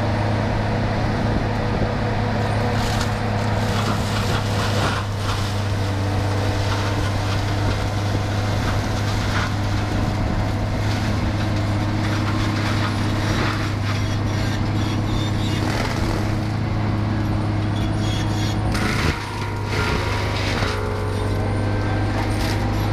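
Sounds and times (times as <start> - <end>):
heavy machine engine humming: 0.0 - 22.9.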